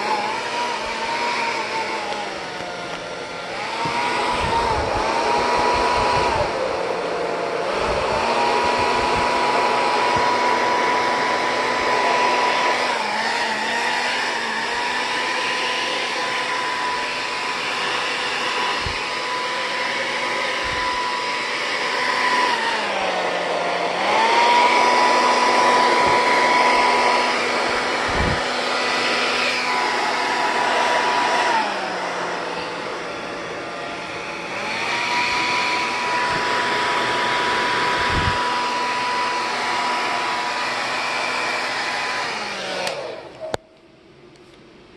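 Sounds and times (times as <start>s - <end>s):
hair dryer blowing: 0.0s - 44.7s.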